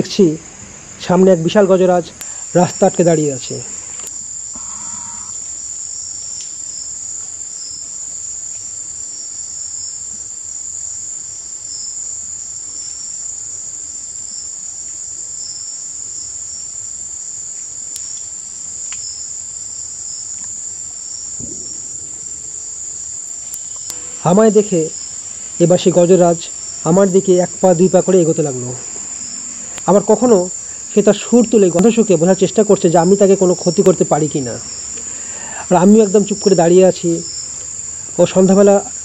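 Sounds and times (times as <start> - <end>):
high insect trill: 0.0 - 39.0
lower pulsing insect trill: 0.0 - 39.0.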